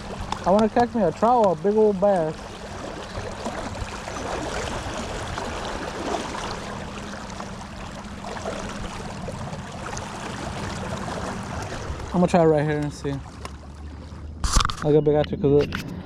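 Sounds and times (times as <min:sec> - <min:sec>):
water splashing along boat hull: 0:00.0 - 0:16.0.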